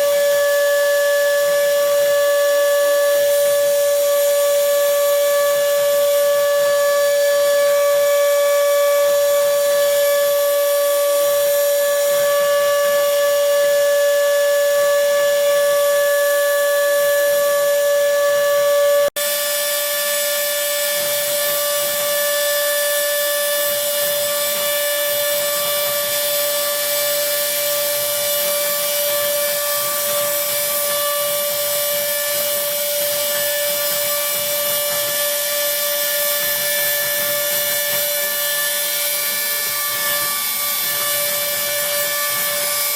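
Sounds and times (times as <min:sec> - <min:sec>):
router spindle motor whine: 0:00.0 - 0:42.9.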